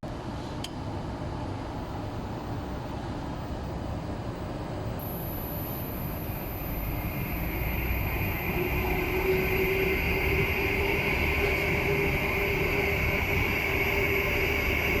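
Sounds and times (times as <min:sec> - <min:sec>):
cooling fan whirring: 0:00.1 - 0:15.0.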